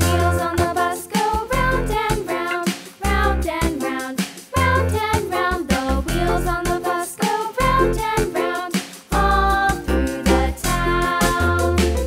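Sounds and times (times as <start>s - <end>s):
children's tune with bass notes: 0.0s - 12.0s.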